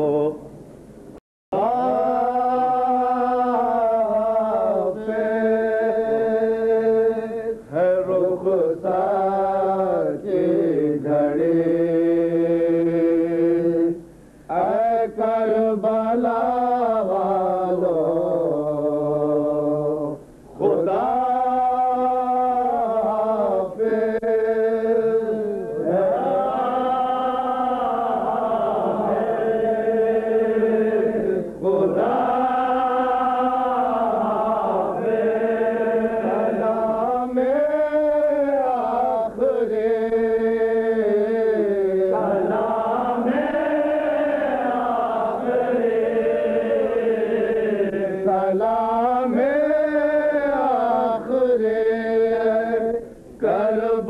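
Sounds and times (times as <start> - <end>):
man chanting a lament: 1.6 - 54.0.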